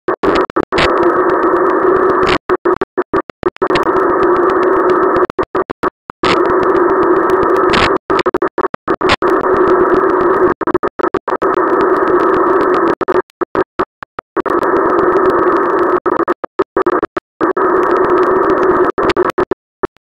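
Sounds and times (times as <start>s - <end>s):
tv static hiss: 0.1s - 19.6s.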